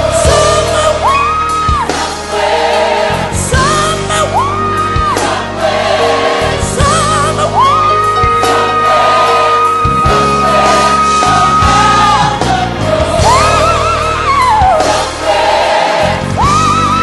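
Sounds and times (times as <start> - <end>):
gospel choir and band: 0.0 - 17.0.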